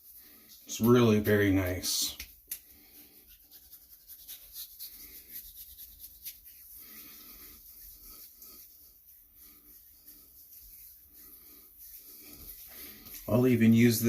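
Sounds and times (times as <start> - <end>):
hands rubbing skin: 0.0 - 14.0.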